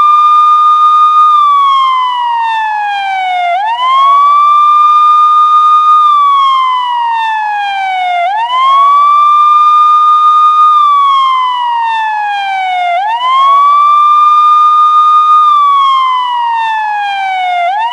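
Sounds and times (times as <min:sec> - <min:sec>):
police siren wailing: 0:00.0 - 0:17.9.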